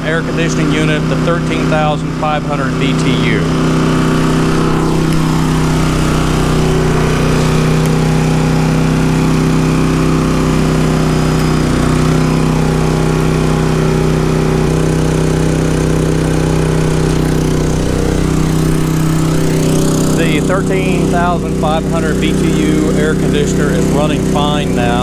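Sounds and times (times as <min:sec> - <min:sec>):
generator engine running: 0:00.0 - 0:25.0.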